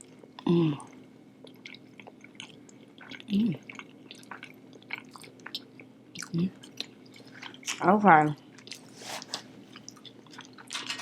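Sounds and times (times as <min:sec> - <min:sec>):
close chewing and wet mouth sounds: 0:00.1 - 0:08.9, 0:09.6 - 0:10.9.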